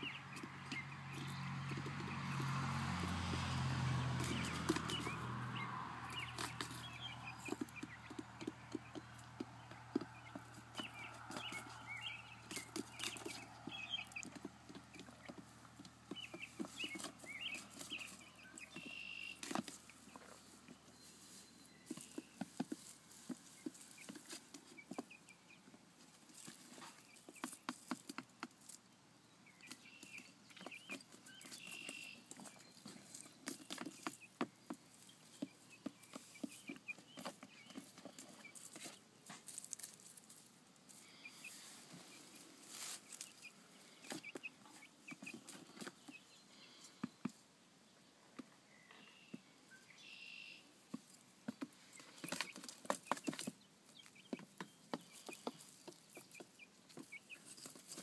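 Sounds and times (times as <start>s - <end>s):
birds scratching and rustling: 0.0s - 29.0s, 29.6s - 47.4s, 50.0s - 58.0s
chicks chirping softly: 0.0s - 58.0s.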